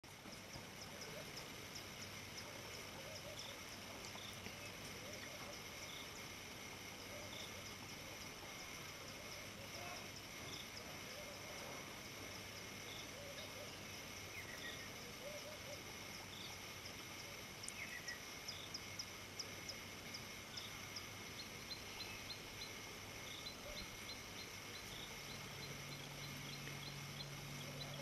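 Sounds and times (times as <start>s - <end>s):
high insect drone: 0.0s - 28.0s
regular insect chirp: 0.0s - 28.0s.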